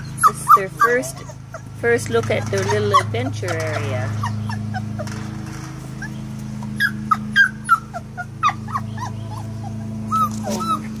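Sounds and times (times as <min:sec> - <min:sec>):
puppies whimpering and yipping: 0:00.0 - 0:11.0
steady low hum: 0:00.0 - 0:11.0.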